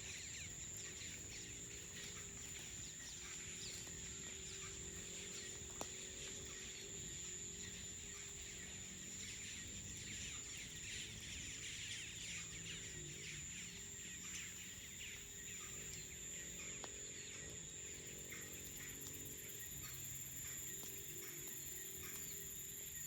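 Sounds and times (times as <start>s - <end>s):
crickets trilling: 0.0s - 23.0s
insects chirping: 0.0s - 23.0s.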